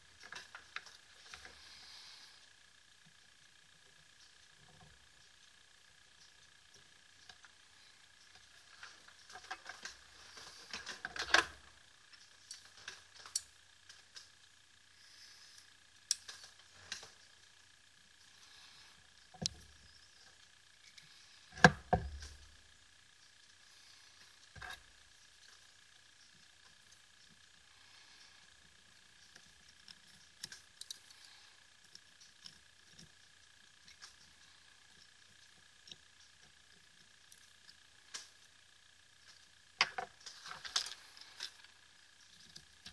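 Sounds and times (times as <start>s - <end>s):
faint high-pitched hum: 0.0s - 42.9s.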